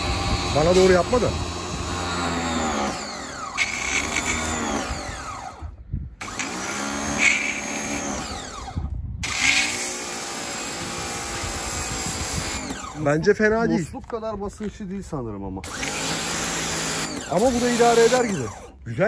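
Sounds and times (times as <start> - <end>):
pressure washer motor whine: 0.0 - 13.1, 15.6 - 18.8.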